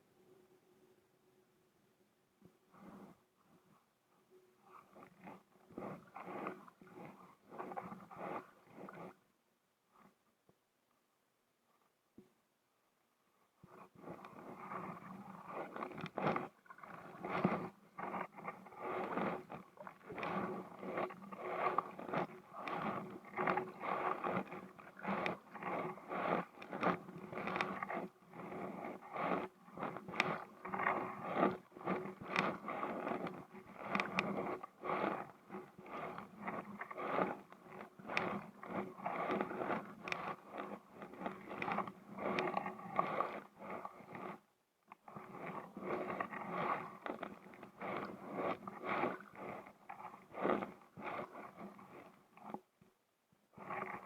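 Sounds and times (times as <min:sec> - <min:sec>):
paddle scraping on hull: 0:04.7 - 0:09.2, 0:13.7 - 0:52.7, 0:53.6 - 0:54.0.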